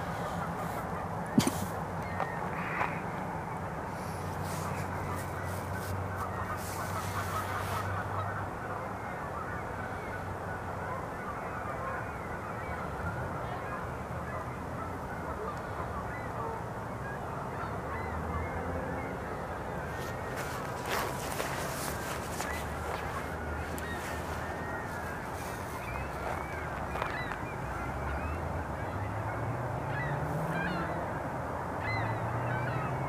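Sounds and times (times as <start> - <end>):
chorus of distant bird calls: 0.0 - 33.0.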